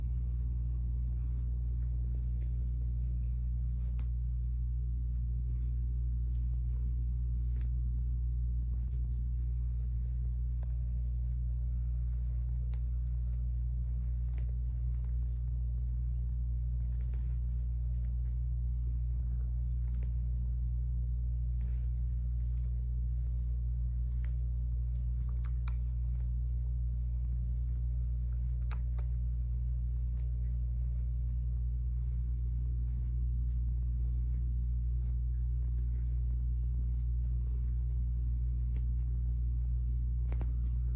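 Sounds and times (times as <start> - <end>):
low rumbling hum: 0.0 - 40.9.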